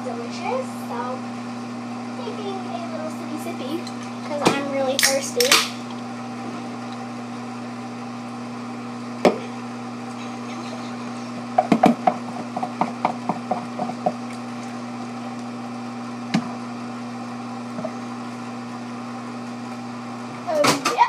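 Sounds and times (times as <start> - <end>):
microwave oven humming: 0.0 - 21.0.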